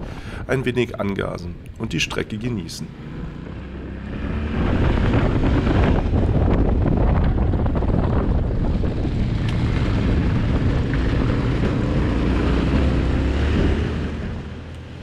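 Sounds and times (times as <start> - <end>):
wind buffeting microphone: 0.0 - 15.0
motorcycle engine under throttle: 2.9 - 15.0.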